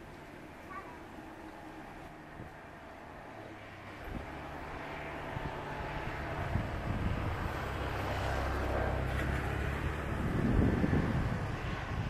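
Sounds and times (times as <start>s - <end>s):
turboprop engine humming: 0.0s - 12.0s.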